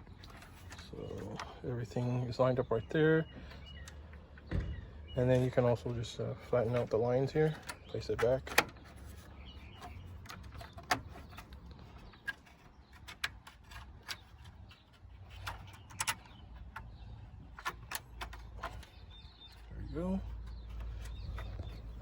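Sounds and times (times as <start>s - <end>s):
light clicks and knocks of parts: 0.0s - 22.0s.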